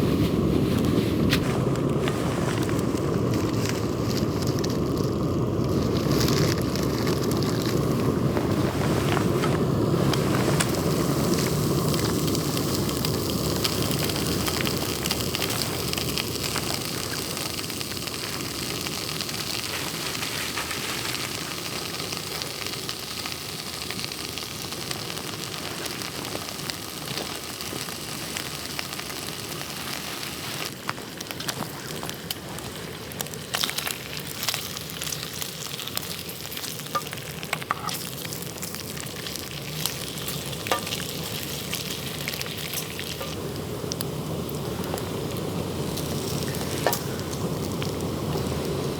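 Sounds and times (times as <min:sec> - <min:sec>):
campfire crackling: 0:00.0 - 0:48.9
pan sizzling: 0:00.0 - 0:48.9.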